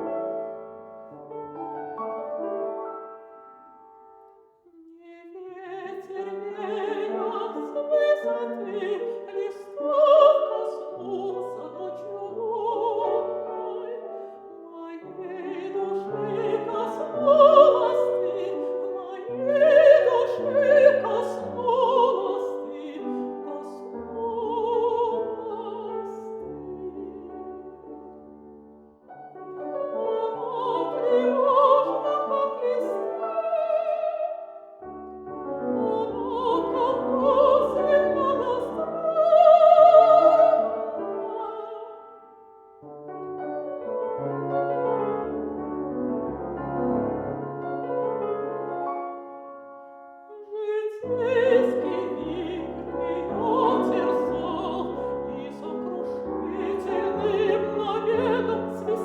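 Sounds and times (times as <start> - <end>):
piano accompaniment: 0.0 - 4.9, 5.6 - 59.0
woman singing classical song: 4.6 - 42.5, 43.3 - 59.0.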